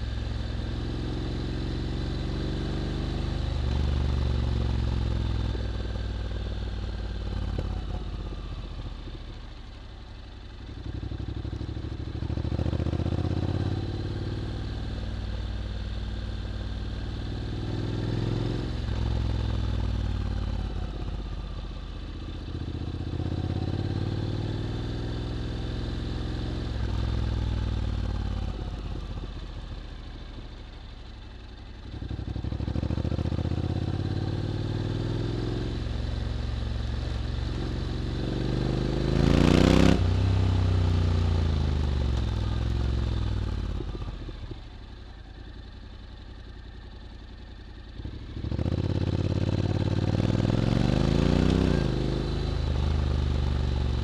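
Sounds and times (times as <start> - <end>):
motorcycle engine accelerating: 0.0 - 9.5, 10.6 - 30.7, 31.8 - 54.0.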